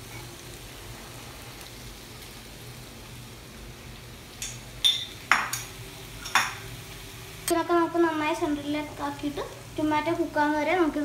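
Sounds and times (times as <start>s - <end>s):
food sizzling in pan: 0.0s - 11.0s.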